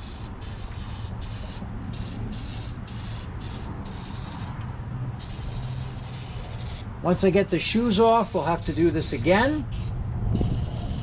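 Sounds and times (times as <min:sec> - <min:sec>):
aerosol can hissing: 0:00.0 - 0:04.6, 0:05.2 - 0:11.0.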